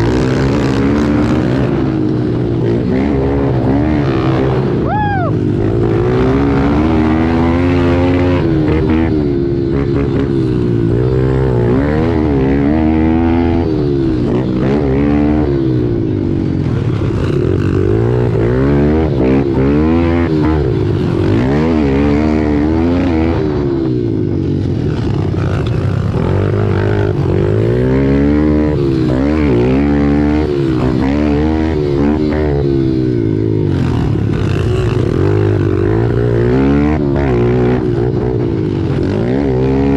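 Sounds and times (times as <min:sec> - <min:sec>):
pit bike engines revving: 0:00.0 - 0:39.9.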